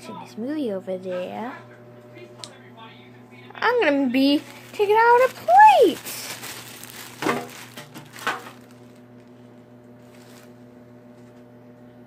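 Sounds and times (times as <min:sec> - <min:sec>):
microwave humming: 0:00.0 - 0:12.0.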